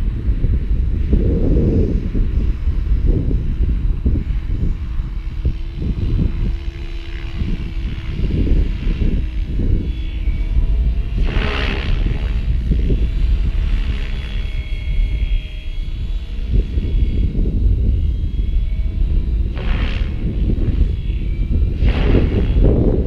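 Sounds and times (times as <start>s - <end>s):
helicopter motor and rotor whine: 0.0s - 23.0s
wind buffeting microphone: 0.0s - 23.0s.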